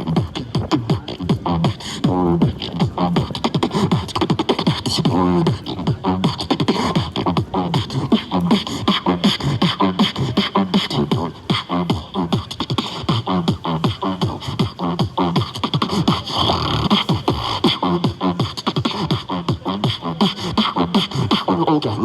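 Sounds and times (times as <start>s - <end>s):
beatboxing mouth percussion: 0.0s - 22.0s
hummed vocal bass notes: 0.0s - 22.0s.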